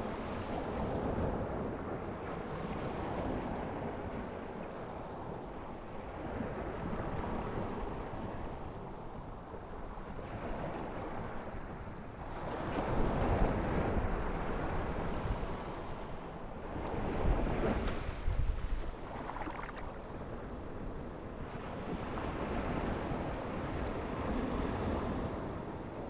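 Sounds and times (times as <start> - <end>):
waves washing on a shore: 0.0 - 26.0.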